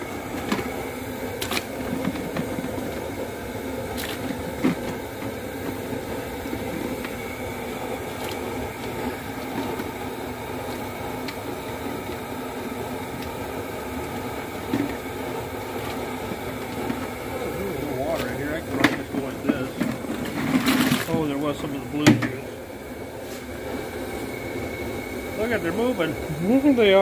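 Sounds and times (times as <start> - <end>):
boat diesel engine droning: 0.0 - 27.0.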